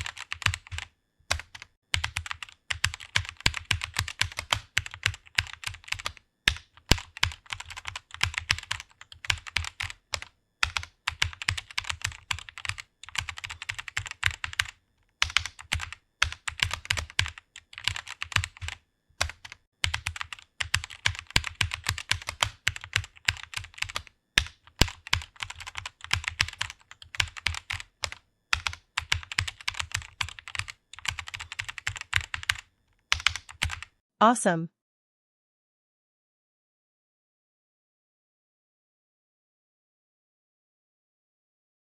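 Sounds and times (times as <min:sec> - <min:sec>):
fast typing on computer keyboard: 0:00.0 - 0:34.0.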